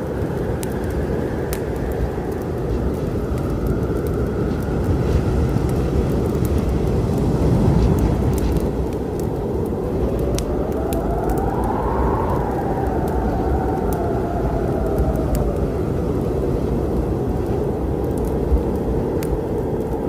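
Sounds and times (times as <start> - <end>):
storm wind and rain: 0.0 - 20.0
wood fire crackling: 0.0 - 20.0.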